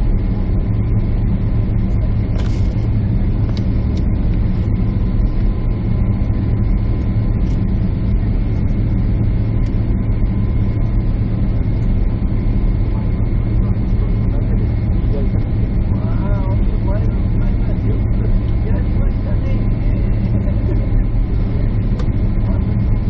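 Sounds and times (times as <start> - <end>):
airliner cabin engine roar: 0.0 - 23.0.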